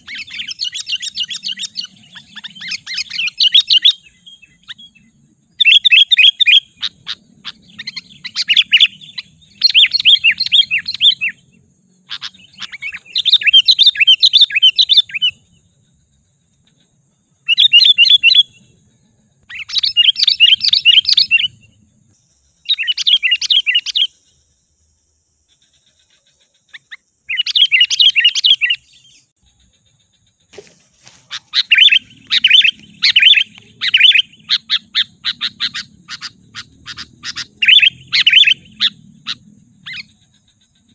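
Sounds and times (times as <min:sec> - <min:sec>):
bulbul chirping song: 0:00.0 - 0:40.9.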